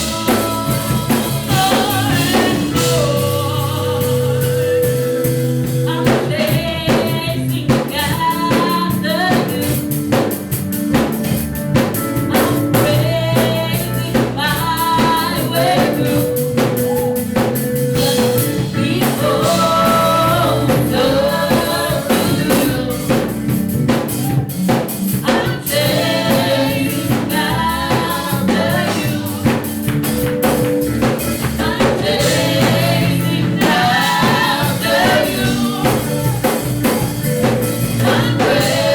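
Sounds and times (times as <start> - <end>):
gospel singers with backing vocals: 0.0 - 11.2, 12.0 - 38.9
band with drums and bass: 0.0 - 38.9.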